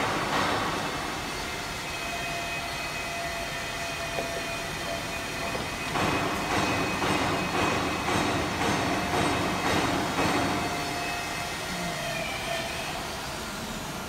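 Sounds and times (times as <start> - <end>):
rhythmic mechanical machine strokes: 0.0 - 14.0.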